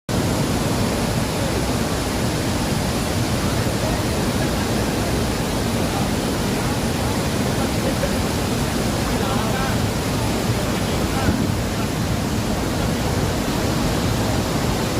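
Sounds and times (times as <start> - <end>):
waterfall roaring: 0.1 - 14.9.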